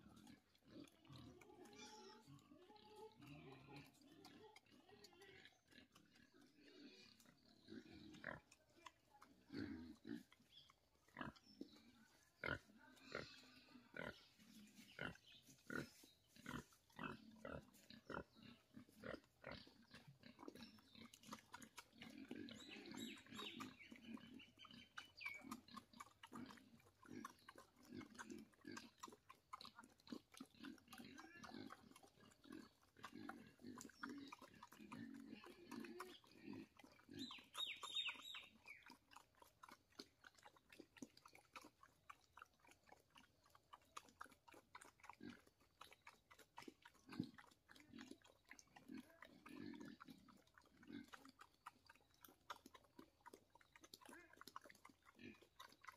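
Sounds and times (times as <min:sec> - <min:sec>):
high-pitched pig calls: 0:00.0 - 0:55.9
pig chewing and slurping: 0:00.0 - 0:55.9
pig grunting: 0:00.0 - 0:55.9.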